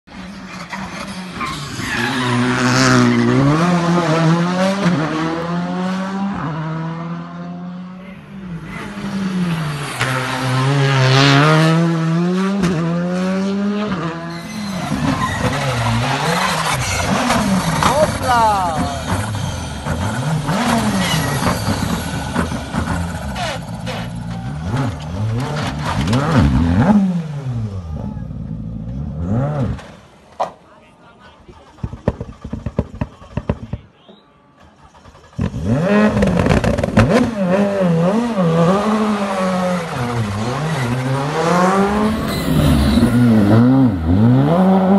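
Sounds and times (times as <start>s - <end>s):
rally car engine revving hard: 0.8s - 27.9s, 28.5s - 30.0s, 35.0s - 44.9s.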